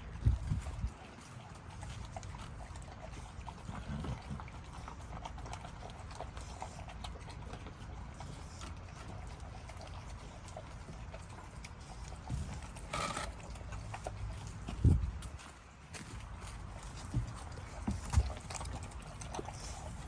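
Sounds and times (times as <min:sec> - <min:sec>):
dogs chewing wet meat: 0:00.0 - 0:20.0.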